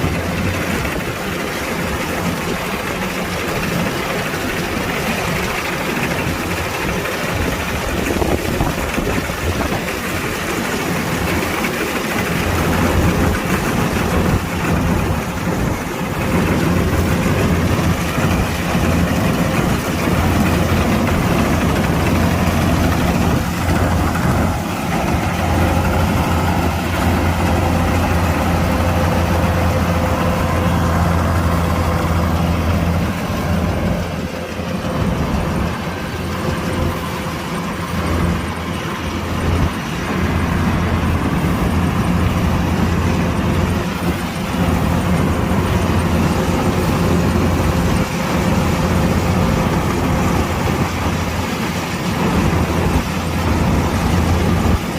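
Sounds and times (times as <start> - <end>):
diesel engine humming: 0.0 - 54.9
machinery whine: 0.0 - 54.9.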